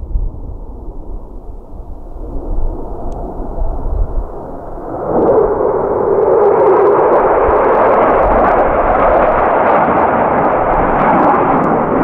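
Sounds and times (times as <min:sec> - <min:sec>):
jet engines roaring: 0:00.3 - 0:12.0.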